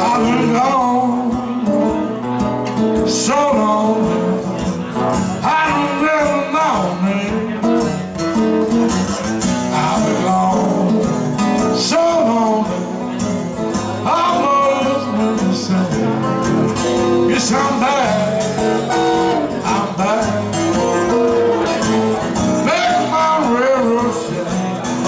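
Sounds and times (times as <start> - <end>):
lead guitar bending licks: 0.0 - 25.0
rhythm guitar strumming: 0.0 - 25.0.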